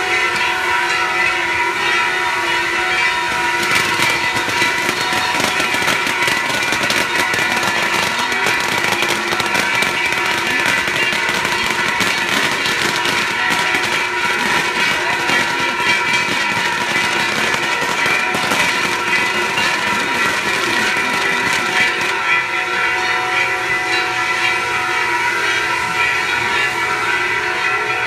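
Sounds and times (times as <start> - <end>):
fireworks crackling and hissing: 0.0 - 23.0.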